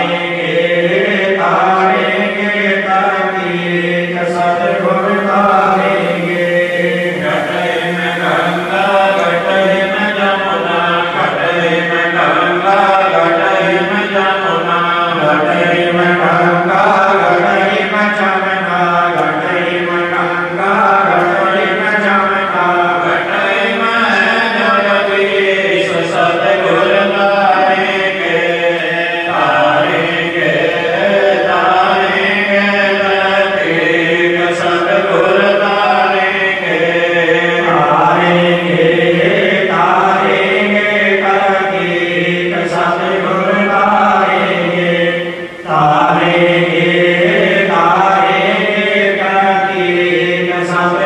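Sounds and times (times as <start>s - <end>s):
hymn being chanted: 0.0s - 51.0s.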